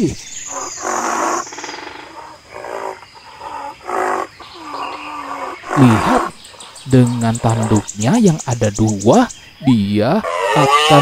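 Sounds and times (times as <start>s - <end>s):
rhinoceros grunting calls: 0.0s - 7.9s, 9.9s - 11.0s.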